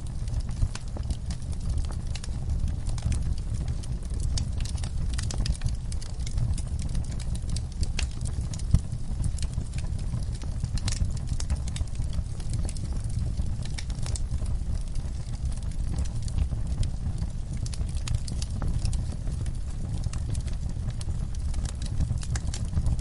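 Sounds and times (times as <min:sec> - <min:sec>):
fire rumbling: 0:00.0 - 0:23.0
wood crackling and snapping: 0:00.1 - 0:23.0.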